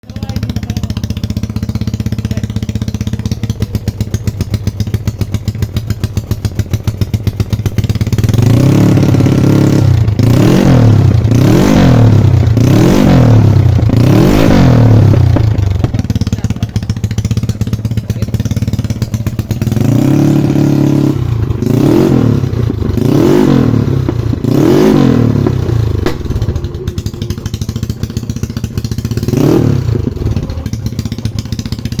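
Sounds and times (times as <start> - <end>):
scooter engine idling and revving: 0.0 - 32.0.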